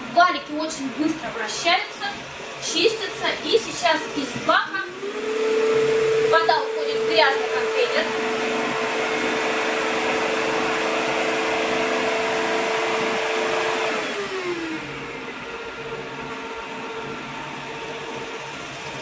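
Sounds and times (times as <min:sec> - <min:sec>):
vacuum motor whine: 0:00.0 - 0:19.0.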